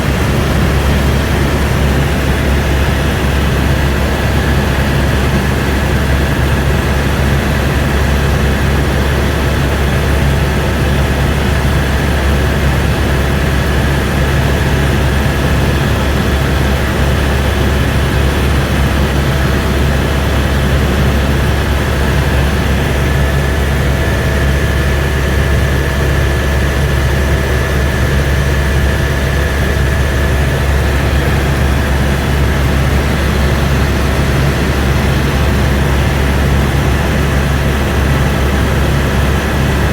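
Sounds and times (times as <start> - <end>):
constant whine: 0.0 - 39.9
helicopter rotor and engine drone: 0.0 - 39.9.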